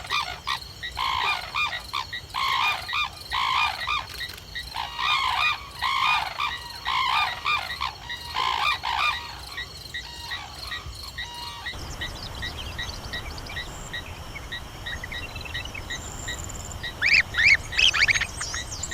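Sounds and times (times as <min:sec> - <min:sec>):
frogs croaking in chorus: 0:00.0 - 0:18.9.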